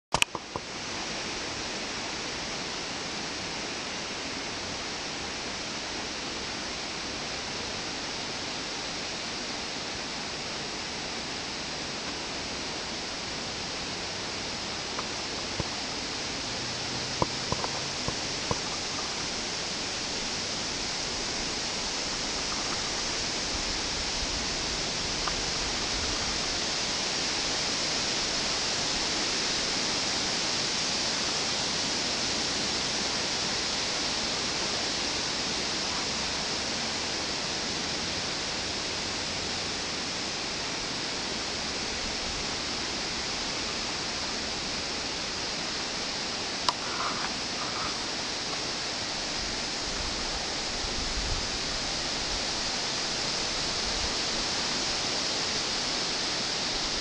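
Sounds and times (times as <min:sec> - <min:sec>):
leaves rustling in breeze: 0:00.1 - 0:57.0.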